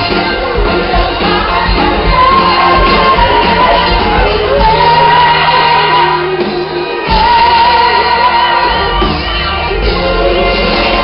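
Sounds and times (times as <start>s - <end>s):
live pop band over loudspeakers: 0.0s - 11.0s.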